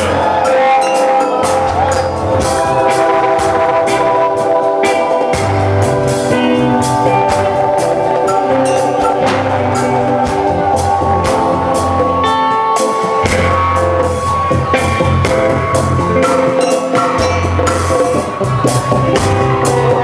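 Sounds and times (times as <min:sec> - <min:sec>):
bass guitar: 0:00.0 - 0:20.0
sustained keyboard chords: 0:00.0 - 0:20.0.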